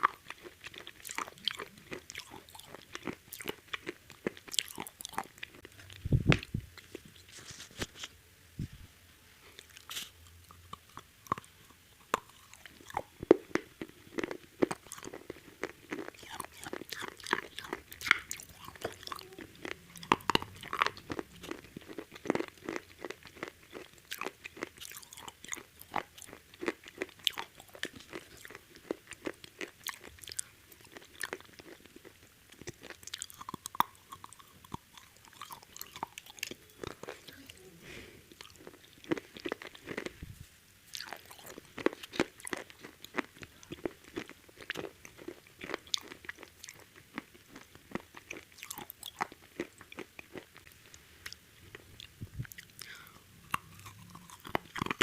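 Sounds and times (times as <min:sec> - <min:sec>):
crunchy chewing of fried chicken: 0:00.0 - 0:08.1, 0:09.4 - 0:55.0.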